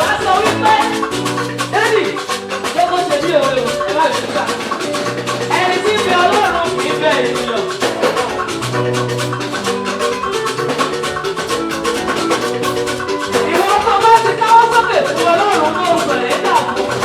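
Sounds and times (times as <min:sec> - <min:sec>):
praise band playing upbeat music: 0:00.0 - 0:17.0
steady percussion beat: 0:00.0 - 0:17.0.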